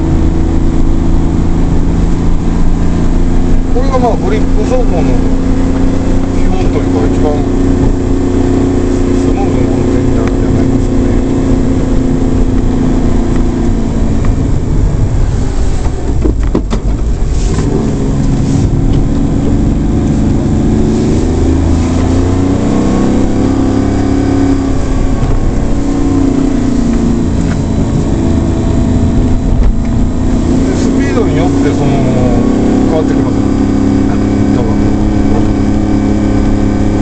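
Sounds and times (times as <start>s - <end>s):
small truck engine while driving: 0.0s - 37.0s.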